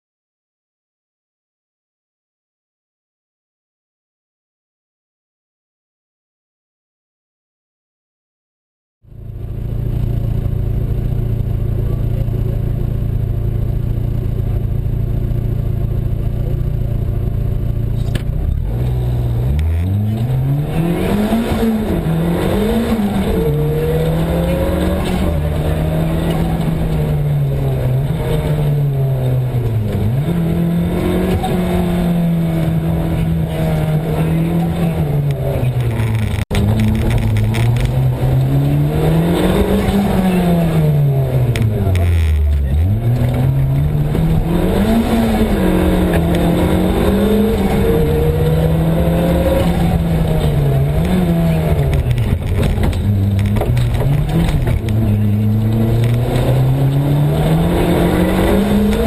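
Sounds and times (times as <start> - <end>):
rally car engine revving: 9.1 - 59.0.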